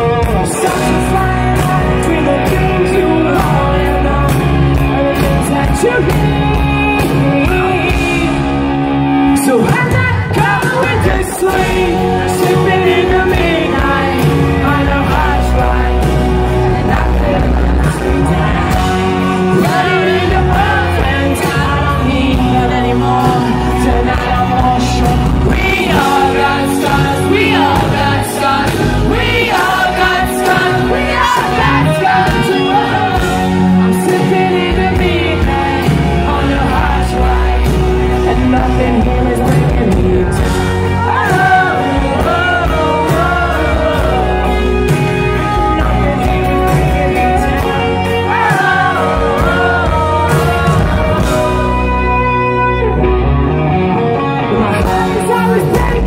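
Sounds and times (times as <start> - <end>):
man singing: 0.0 - 53.1, 54.2 - 56.0
live pop rock band: 0.0 - 56.0.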